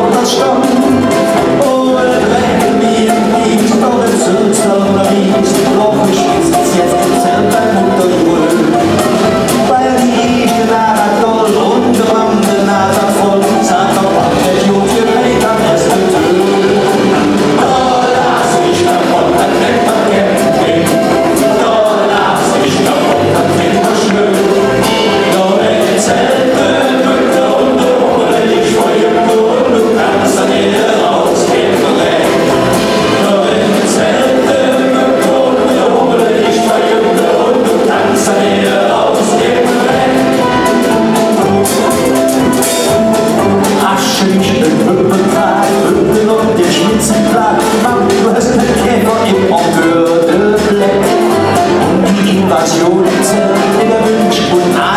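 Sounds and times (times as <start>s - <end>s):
man singing into a microphone: 0.0s - 41.2s, 43.6s - 54.9s
backing voices singing: 0.0s - 54.9s
live band music: 0.0s - 54.9s.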